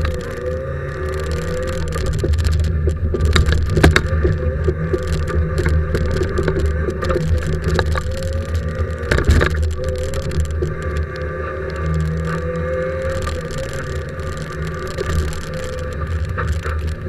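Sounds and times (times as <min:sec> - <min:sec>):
car shell knocking and rattling: 0:00.0 - 0:17.0
rally car engine running hard: 0:00.0 - 0:17.0.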